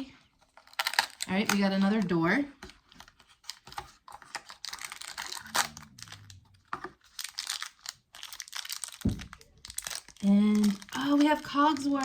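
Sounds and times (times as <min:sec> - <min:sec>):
plastic packaging crinkling: 0:00.3 - 0:12.0.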